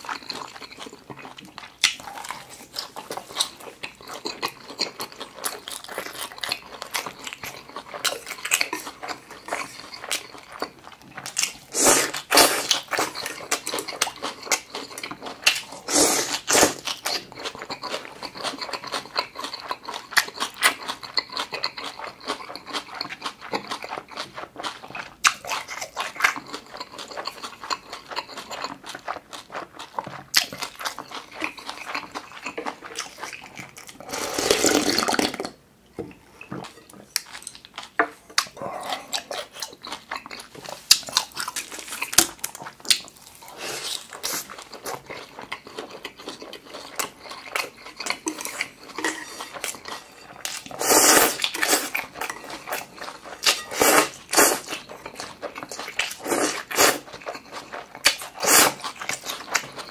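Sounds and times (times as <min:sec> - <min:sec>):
chewing with wet mouth clicks: 0:00.0 - 0:34.0, 0:36.4 - 0:59.9.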